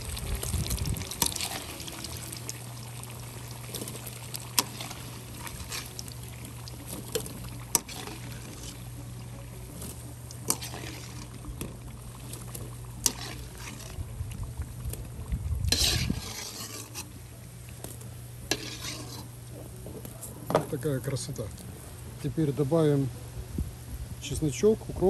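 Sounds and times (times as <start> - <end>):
oil sizzling and crackling: 0.0 - 23.1.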